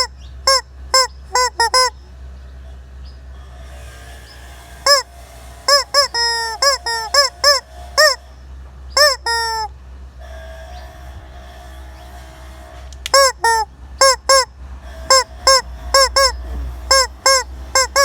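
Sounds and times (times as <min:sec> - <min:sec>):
chicken squawking: 0:00.0 - 0:08.3, 0:09.0 - 0:11.6, 0:12.2 - 0:18.0.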